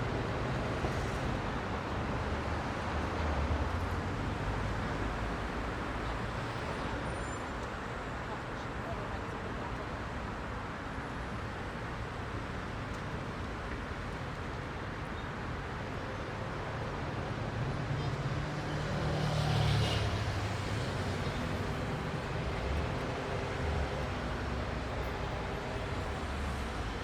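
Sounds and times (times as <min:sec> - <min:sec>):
heavy road traffic: 0:00.0 - 0:27.0.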